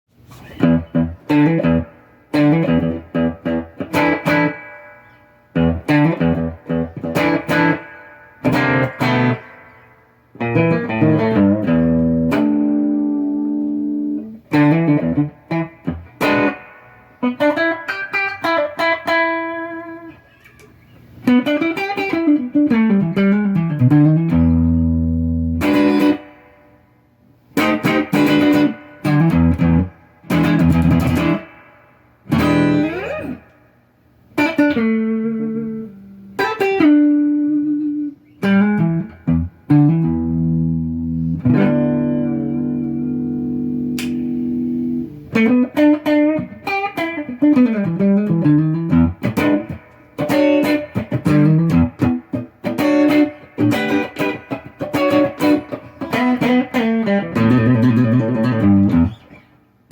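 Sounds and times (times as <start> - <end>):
clean electric guitar playing: 0.3 - 20.4, 21.2 - 26.9, 27.5 - 59.9.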